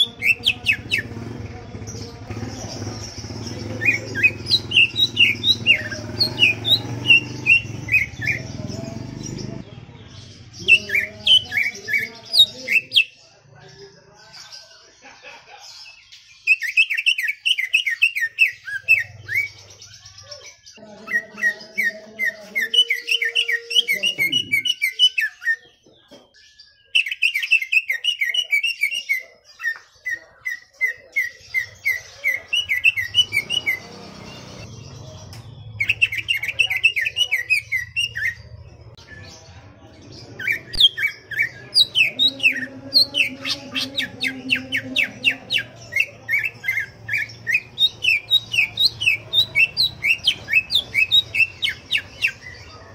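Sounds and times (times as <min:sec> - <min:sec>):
bird singing rapid high chirps: 0:00.0 - 0:13.3, 0:16.0 - 0:52.9.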